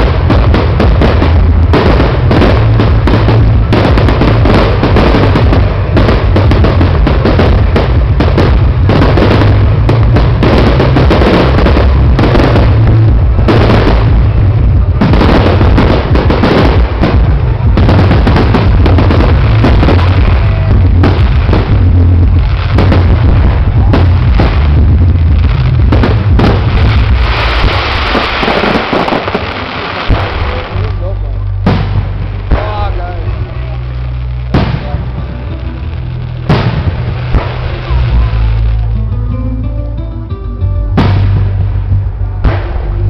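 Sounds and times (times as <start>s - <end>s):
fireworks booming and crackling: 0.0s - 39.2s, 40.9s - 43.0s.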